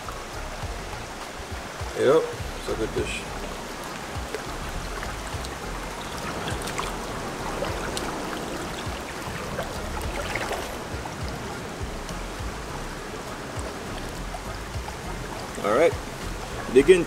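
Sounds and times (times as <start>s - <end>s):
river flowing over rocks: 0.0s - 17.0s.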